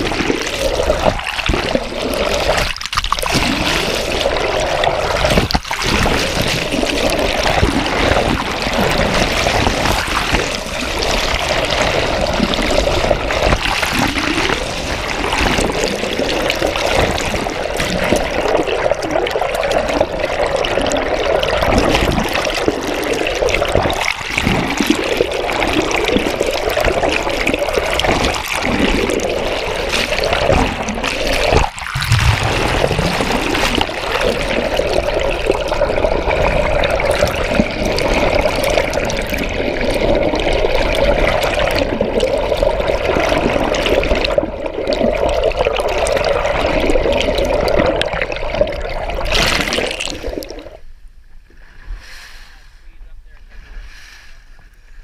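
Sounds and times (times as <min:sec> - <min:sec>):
water rushing underwater: 0:00.0 - 0:51.0.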